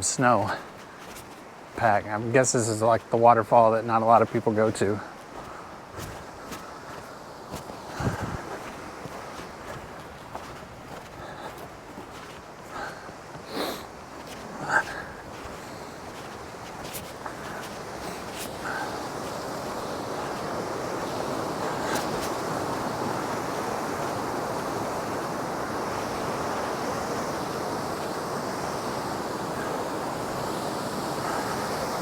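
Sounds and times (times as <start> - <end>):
waterfall rushing: 1.7 - 32.0.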